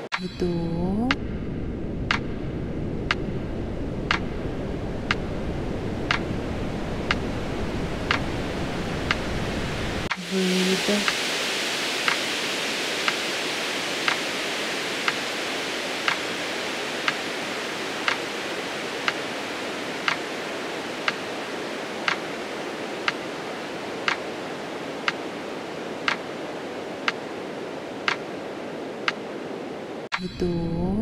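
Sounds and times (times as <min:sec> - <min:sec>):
steady rushing hiss: 0:00.9 - 0:30.2.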